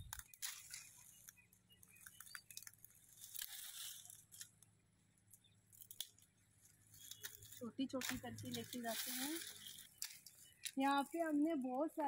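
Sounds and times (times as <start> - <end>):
twigs snapping: 0.0 - 11.0
dry twigs crackling: 0.0 - 12.0.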